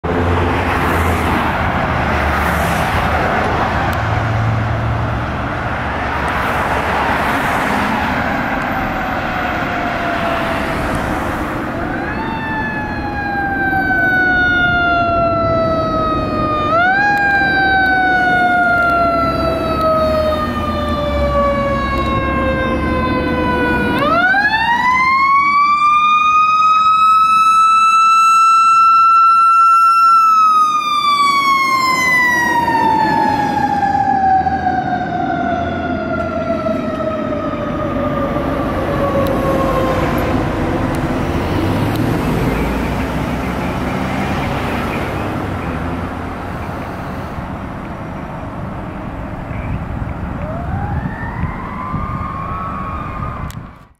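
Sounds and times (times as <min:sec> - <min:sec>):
engine and traffic rumble: 0:00.0 - 0:53.9
fire engine siren wailing: 0:00.0 - 0:53.9.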